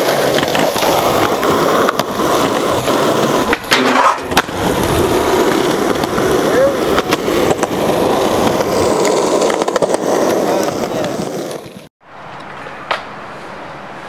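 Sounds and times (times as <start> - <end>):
skateboard clack: 0.0 - 13.1
skateboard wheels rolling on concrete: 0.0 - 14.0.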